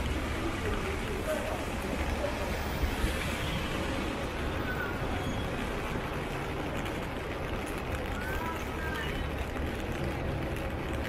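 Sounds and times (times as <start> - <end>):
rain hiss: 0.0 - 11.0
traffic on wet roads: 0.0 - 11.0.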